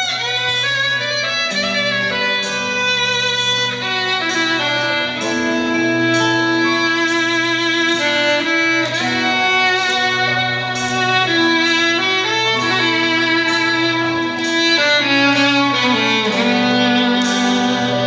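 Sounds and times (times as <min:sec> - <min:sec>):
violin solo: 0:00.0 - 0:18.0.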